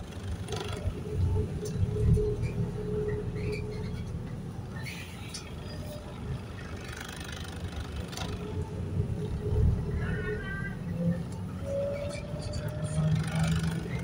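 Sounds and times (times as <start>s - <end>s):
bus drivetrain and road rumble: 0.0s - 14.0s.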